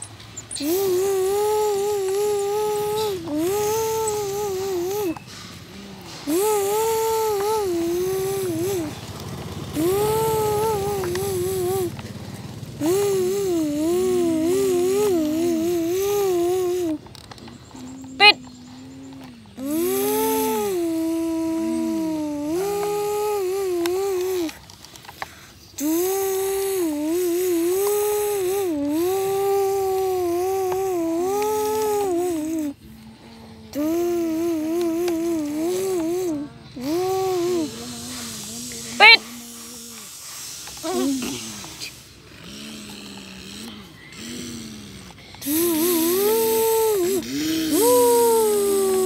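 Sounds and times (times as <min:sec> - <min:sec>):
child imitating truck engine: 0:00.0 - 0:49.0.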